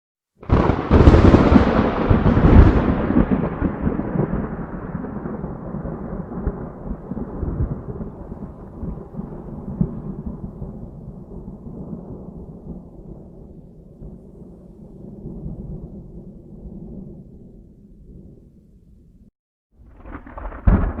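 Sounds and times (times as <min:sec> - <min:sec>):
thunderclap with rolling rumble: 0:00.4 - 0:18.7, 0:19.8 - 0:21.0.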